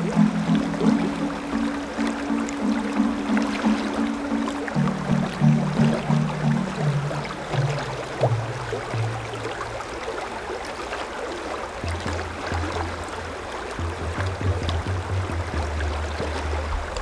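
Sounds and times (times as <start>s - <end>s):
low held music notes: 0.0s - 10.5s, 11.6s - 17.0s
brook running: 0.0s - 17.0s.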